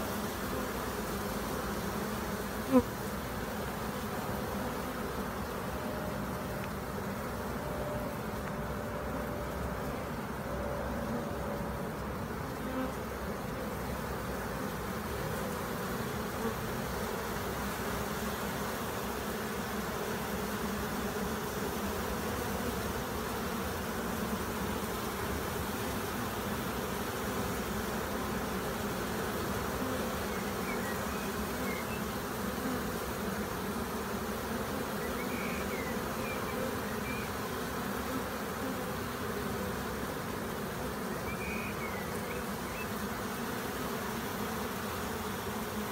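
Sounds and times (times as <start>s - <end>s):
swarm of bees buzzing: 0.0s - 45.9s.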